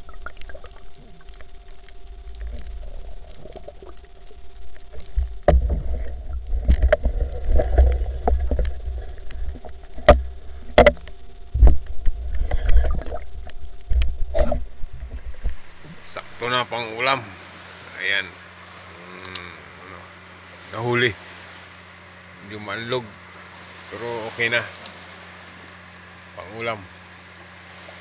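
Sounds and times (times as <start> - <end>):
faint steady hum: 0.0 - 28.0
underwater water rumble: 0.0 - 28.0.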